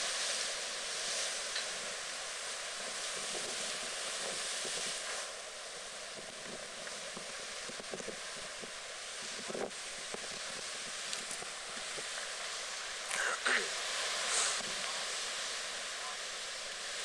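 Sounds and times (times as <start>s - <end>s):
storm waves breaking on a wall: 0.0s - 17.0s
wind: 0.0s - 17.0s.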